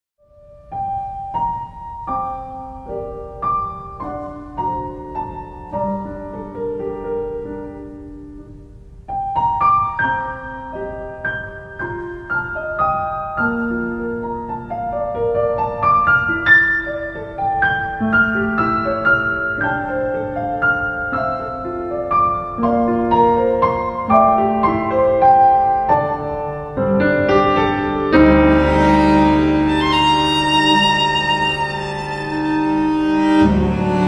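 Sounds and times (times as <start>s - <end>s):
slow solo piano melody: 0.2s - 34.0s.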